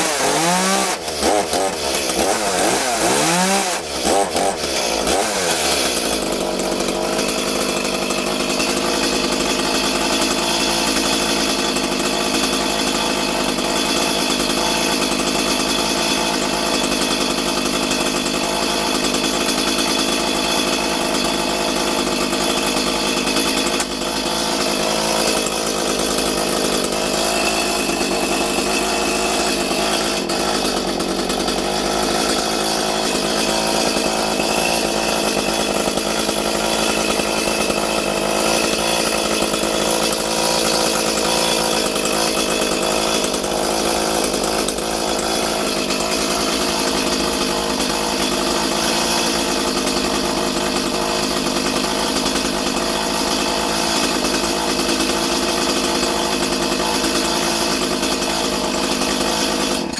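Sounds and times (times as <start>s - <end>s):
chainsaw engine running: 0.0s - 59.9s.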